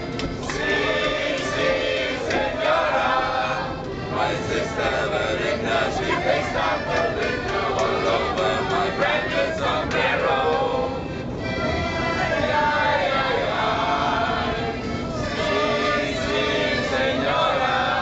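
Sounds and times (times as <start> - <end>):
group singing in chorus: 0.4 - 18.0.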